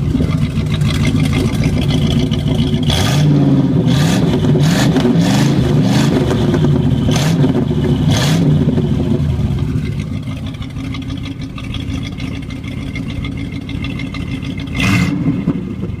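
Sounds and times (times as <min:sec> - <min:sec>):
car engine lumpy idle: 0:00.0 - 0:16.0
car engine revving: 0:00.0 - 0:16.0.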